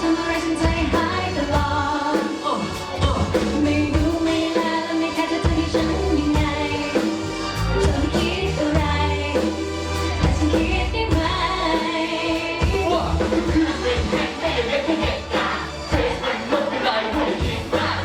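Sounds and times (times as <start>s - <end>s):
pop song over loudspeakers: 0.0s - 18.0s.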